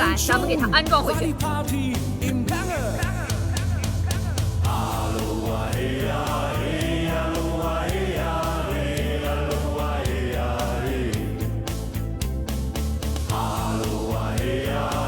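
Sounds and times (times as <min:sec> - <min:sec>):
voices singing over a beat: 0:00.0 - 0:15.0.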